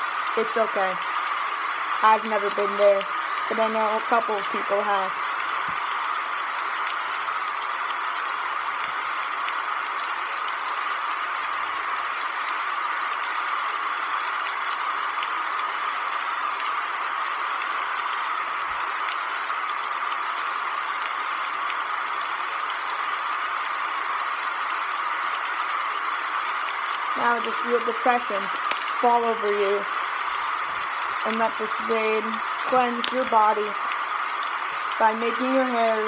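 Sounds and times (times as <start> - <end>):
rain hissing: 0.0 - 36.0.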